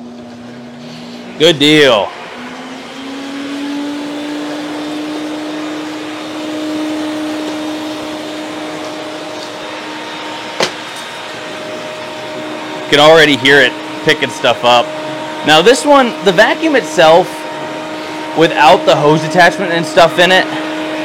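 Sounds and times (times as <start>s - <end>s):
vacuum cleaner motor whine: 0.0s - 21.0s.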